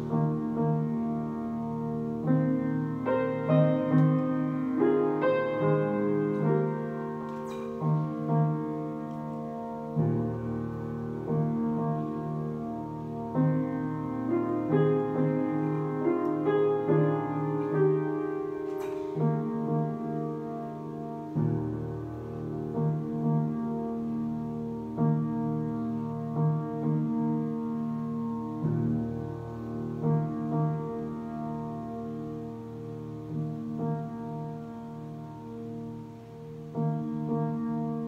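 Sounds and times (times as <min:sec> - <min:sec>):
solo piano: 0:00.0 - 0:38.0.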